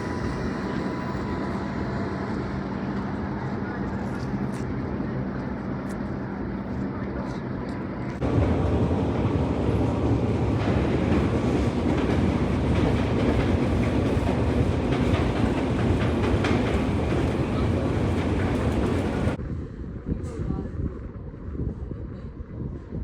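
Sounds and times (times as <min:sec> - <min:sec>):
metro train rumbling on rails: 0:00.0 - 0:19.5.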